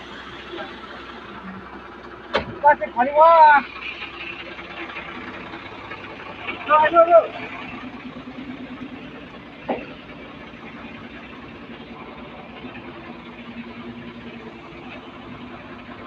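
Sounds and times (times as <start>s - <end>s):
construction machine engine idling: 0.0s - 16.0s.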